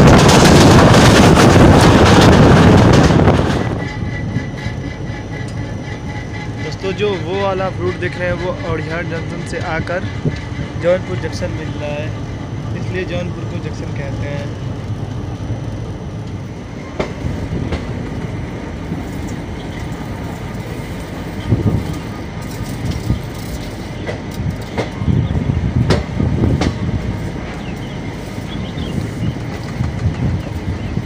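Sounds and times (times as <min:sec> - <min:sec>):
train coaches rumbling: 0:00.0 - 0:31.0
wheels clacking over rails: 0:00.0 - 0:31.0.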